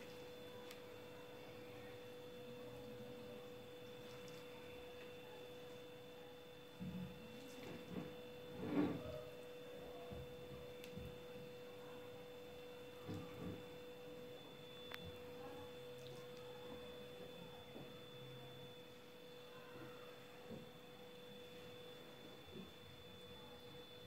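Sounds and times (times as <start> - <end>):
electrical hum with high whine: 0.0 - 24.0.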